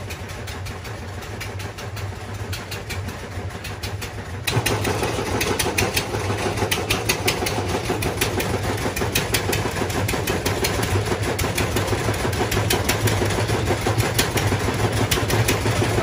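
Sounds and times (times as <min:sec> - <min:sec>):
engine running steadily: 0:00.0 - 0:16.0
sharp clicks and knocks: 0:00.0 - 0:16.0.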